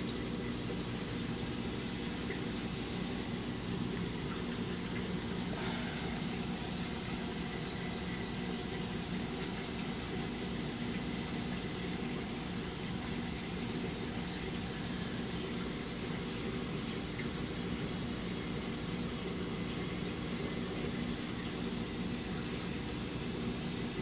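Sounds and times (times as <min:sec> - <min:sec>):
aquarium pump hum: 0:00.0 - 0:24.0
circulating water: 0:00.0 - 0:24.0.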